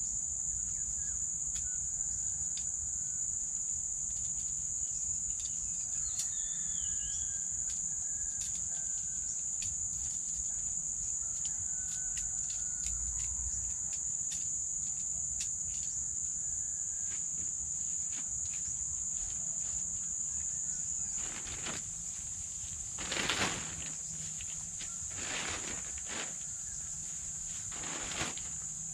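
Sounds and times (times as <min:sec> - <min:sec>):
insect trill: 0:00.0 - 0:28.9
rustle: 0:01.4 - 0:28.9.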